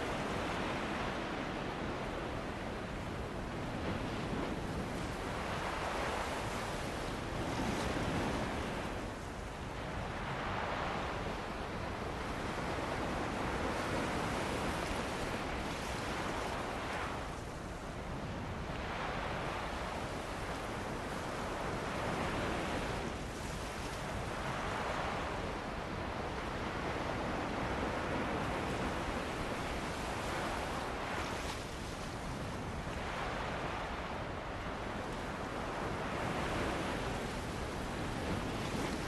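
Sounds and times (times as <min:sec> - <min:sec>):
ocean surf on a beach: 0:00.0 - 0:39.0
wind: 0:00.0 - 0:39.0.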